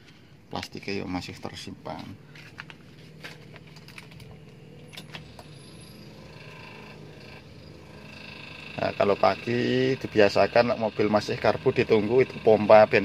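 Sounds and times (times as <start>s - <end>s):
fuel pump humming: 2.2s - 13.0s.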